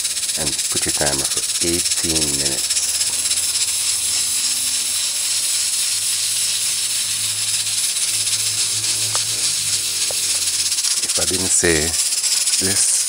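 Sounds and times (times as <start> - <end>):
pressure cooker hissing steam: 0.0 - 13.0.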